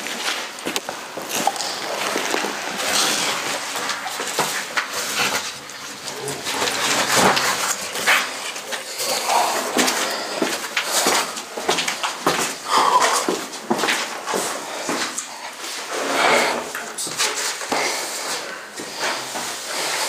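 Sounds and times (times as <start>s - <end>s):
footsteps on stairs: 0.0s - 20.0s.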